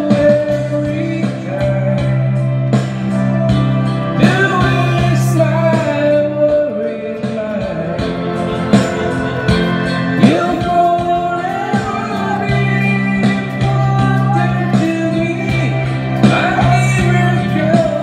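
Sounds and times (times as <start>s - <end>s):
person singing into microphone: 0.0s - 3.0s, 4.1s - 18.0s
backing track with guitar and beat: 0.0s - 18.0s.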